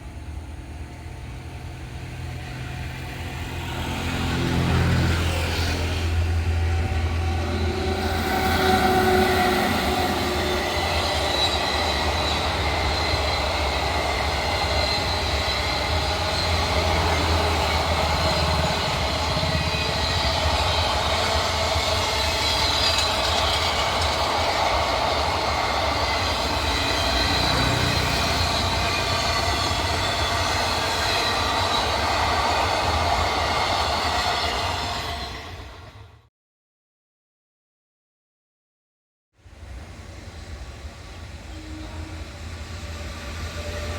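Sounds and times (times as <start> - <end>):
train wheels squealing on rails: 0.0 - 36.2, 39.5 - 43.9.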